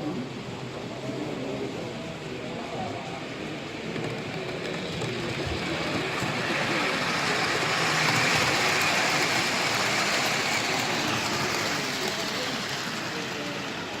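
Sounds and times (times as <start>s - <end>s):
model train rolling: 0.2s - 14.0s.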